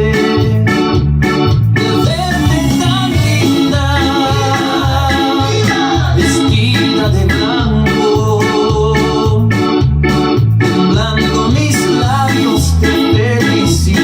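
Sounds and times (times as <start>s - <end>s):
electronic organ tune: 0.0s - 14.0s
repeating bass line: 0.0s - 14.0s.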